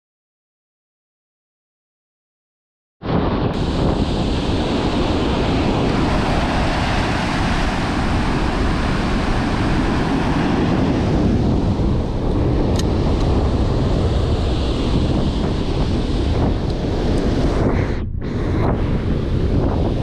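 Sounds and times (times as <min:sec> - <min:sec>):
wind buffeting microphone: 0:03.0 - 0:20.0
breaking surf: 0:03.1 - 0:20.0.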